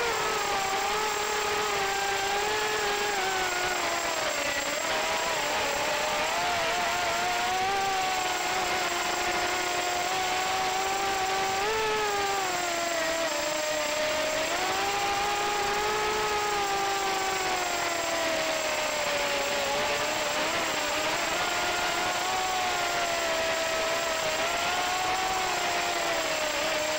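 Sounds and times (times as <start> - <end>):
drone motors whining: 0.0 - 26.9.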